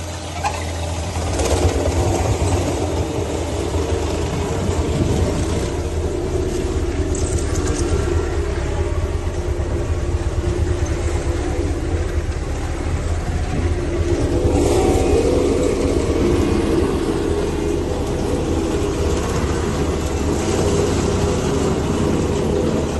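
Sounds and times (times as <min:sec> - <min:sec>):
heavy engine running: 0:00.0 - 0:22.9.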